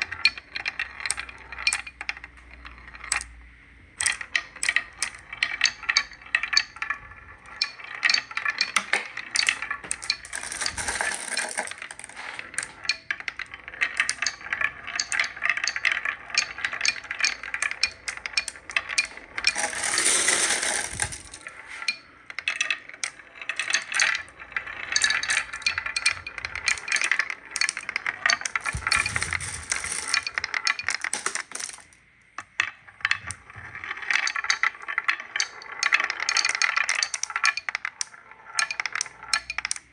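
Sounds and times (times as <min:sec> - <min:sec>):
marbles clicking down wooden run: 0:00.0 - 0:39.9.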